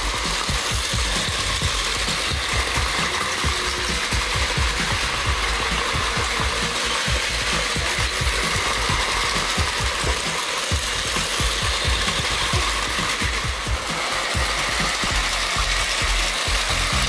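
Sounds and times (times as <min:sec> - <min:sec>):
toy train motor whirring: 0:00.0 - 0:17.0
toy train wheels clattering on track: 0:00.0 - 0:17.0.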